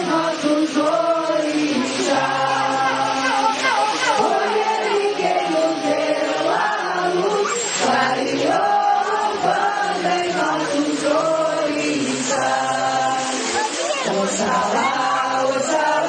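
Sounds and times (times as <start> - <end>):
group singing a devotional chant: 0.0 - 16.0.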